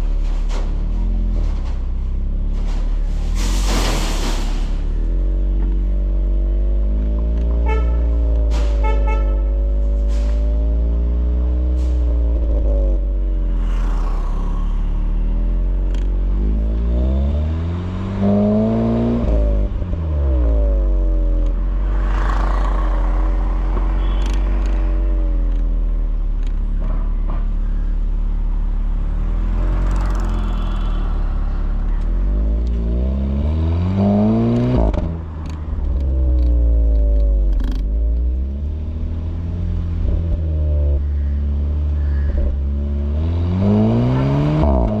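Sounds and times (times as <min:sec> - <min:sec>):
car engine accelerating: 0:00.0 - 0:08.9, 0:09.6 - 0:45.0.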